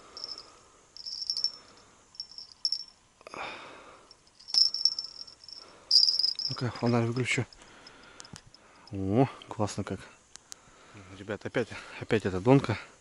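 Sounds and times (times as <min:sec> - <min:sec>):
crickets chirping: 0:00.0 - 0:12.1.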